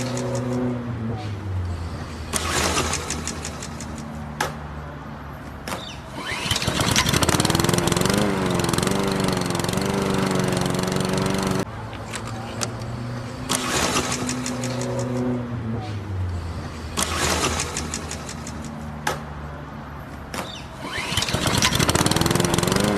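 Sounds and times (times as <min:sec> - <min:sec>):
engine-like drone: 0:00.0 - 0:05.5, 0:06.1 - 0:20.1, 0:20.8 - 0:22.9.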